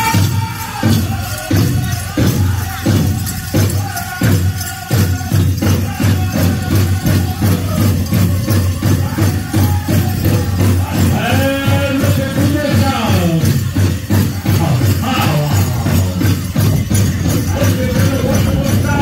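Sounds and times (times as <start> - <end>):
large drum beating: 0.0 - 19.0
voices singing: 0.0 - 19.0.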